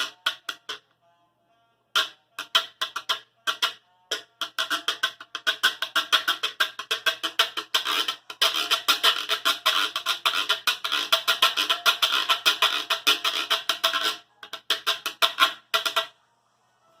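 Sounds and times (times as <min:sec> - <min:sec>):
guiro scraping: 0:02.0 - 0:16.1.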